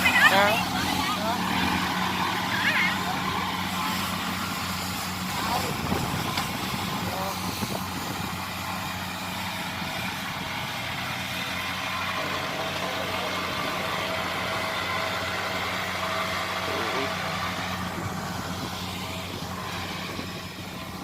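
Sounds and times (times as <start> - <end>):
diesel engine running steadily: 0.0 - 21.0.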